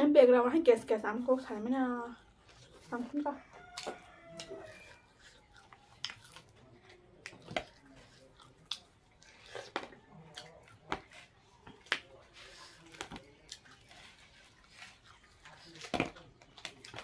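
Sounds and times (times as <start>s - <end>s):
mouth chewing and smacking: 1.4s - 17.0s
fingers picking meat off bone: 2.5s - 17.0s.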